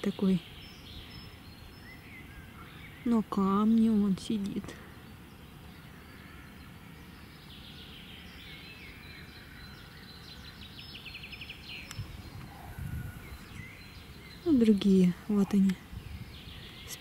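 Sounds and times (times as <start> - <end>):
small songbirds singing: 0.0 - 17.0.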